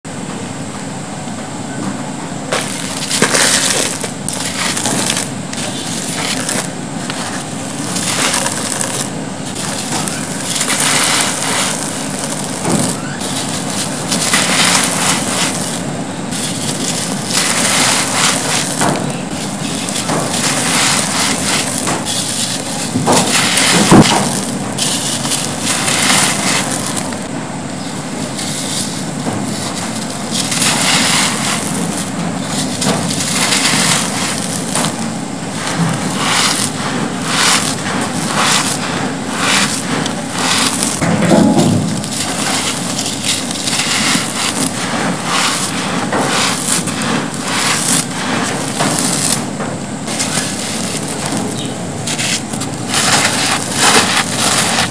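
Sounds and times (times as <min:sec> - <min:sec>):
hands crumbling dry cement: 0:02.5 - 0:27.3, 0:28.0 - 0:54.9
sharp crack: 0:02.5 - 0:27.3, 0:28.2 - 0:54.9
hiss of falling grit: 0:02.5 - 0:54.9.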